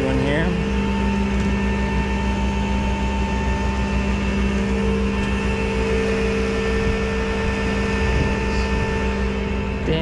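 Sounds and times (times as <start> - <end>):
tow truck engine running: 0.0 - 10.0.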